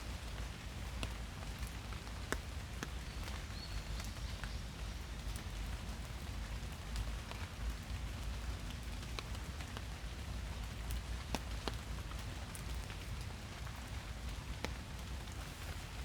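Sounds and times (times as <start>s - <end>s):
rain pattering in a forest: 0.0s - 16.0s
close raindrops landing: 0.1s - 16.0s.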